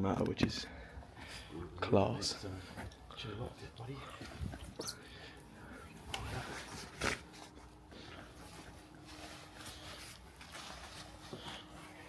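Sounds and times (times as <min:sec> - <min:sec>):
faint steady hum: 0:00.0 - 0:12.0
faint rustling: 0:02.2 - 0:12.0.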